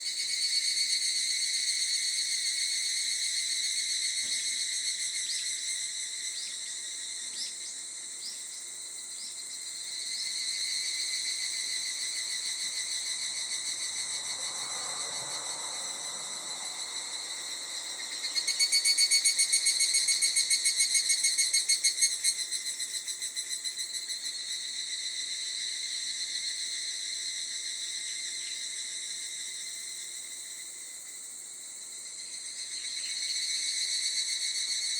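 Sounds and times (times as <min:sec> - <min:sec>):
rapidly pulsing insect call: 0:00.0 - 0:34.9
insects chirring: 0:00.1 - 0:34.9.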